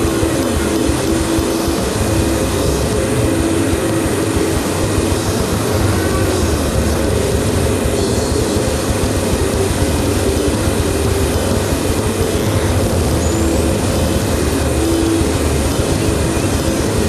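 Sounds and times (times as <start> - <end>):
higher held tones: 0.0 - 17.0
low hum: 0.0 - 17.0
mechanical rumble: 0.0 - 17.0.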